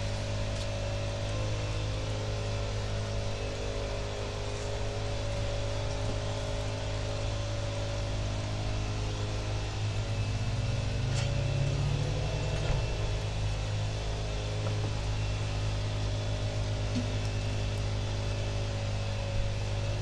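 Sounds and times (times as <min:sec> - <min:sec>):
small lawn equipment engine: 0:00.0 - 0:20.0.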